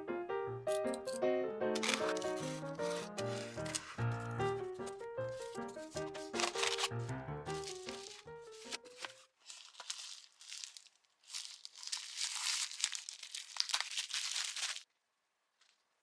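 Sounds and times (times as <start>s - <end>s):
paper or plastic rustling: 1.8s - 14.9s.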